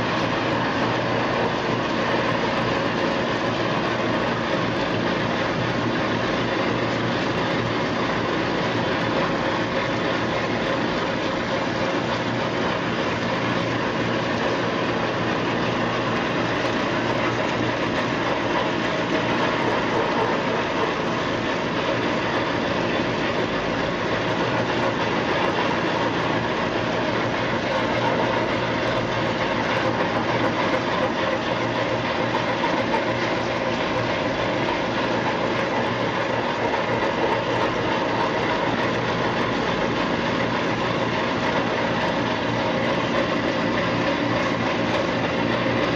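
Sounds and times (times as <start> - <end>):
low mechanical hum: 0.0 - 45.9
washing machine brush rollers churning: 0.0 - 45.9.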